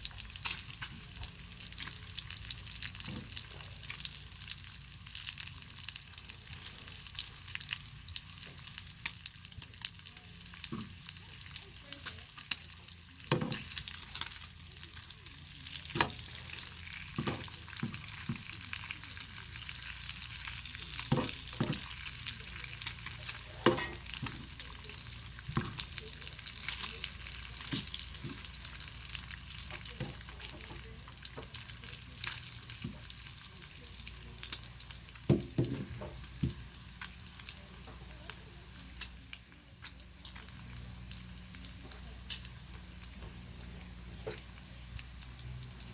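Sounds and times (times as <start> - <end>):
bacon sizzling: 0.0 - 45.9.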